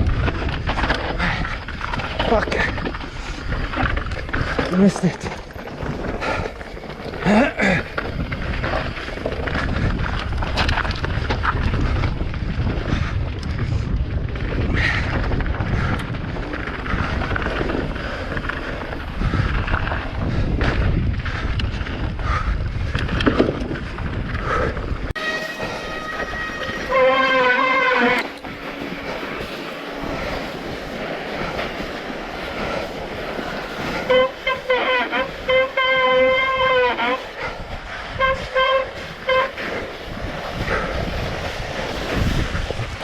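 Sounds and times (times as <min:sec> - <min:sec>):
mountain bike rattling: 0:00.0 - 0:43.0
wind buffeting microphone: 0:00.0 - 0:43.0.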